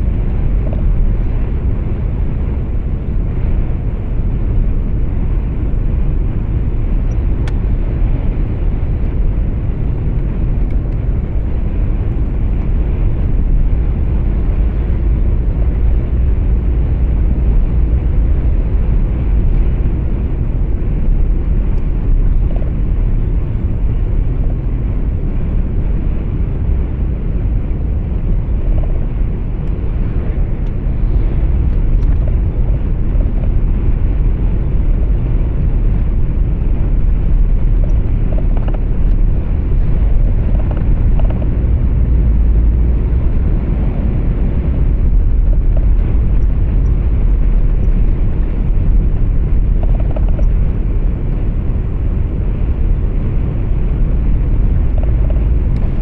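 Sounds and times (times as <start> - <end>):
truck road and engine rumble: 0.0 - 56.0.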